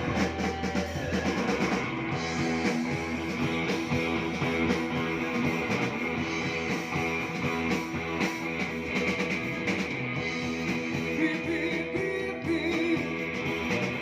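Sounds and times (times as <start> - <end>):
drums playing a steady beat: 0.0 - 14.0
electric guitar riff: 0.0 - 14.0.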